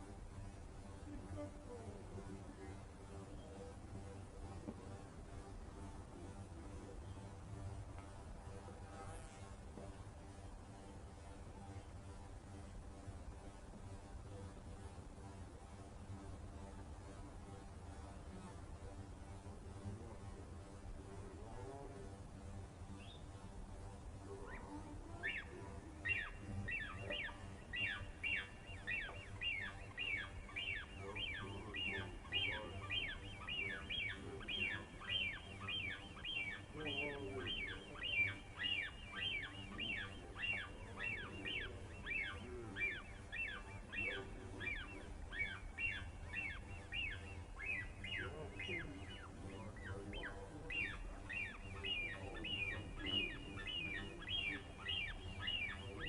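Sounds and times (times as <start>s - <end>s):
lower bird calls: 0.0s - 56.0s
small birds chirping: 0.0s - 56.0s.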